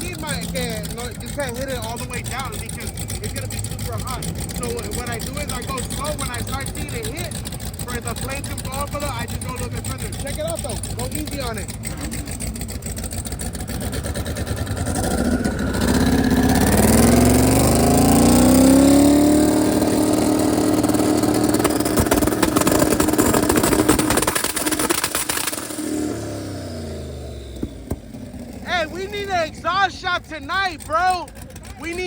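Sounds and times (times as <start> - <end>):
car engine revving: 0.0 - 32.0
rev limiter crackling: 0.0 - 32.0.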